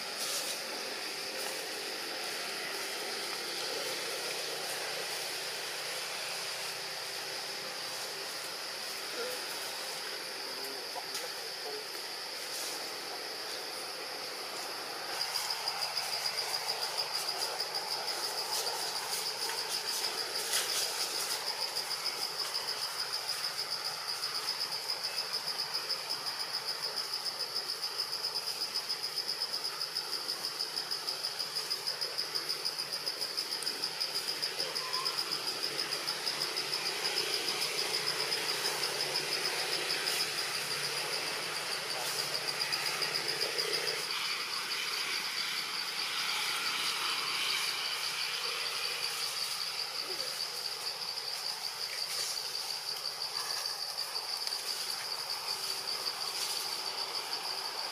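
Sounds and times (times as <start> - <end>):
insect chorus: 0.0 - 57.9.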